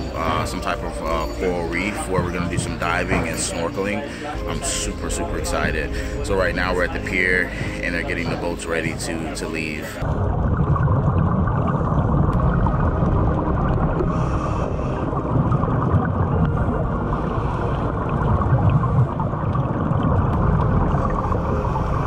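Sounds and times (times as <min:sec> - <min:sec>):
diver's regulator bubbling: 0:00.0 - 0:22.0
muffled underwater rumble: 0:00.0 - 0:22.0.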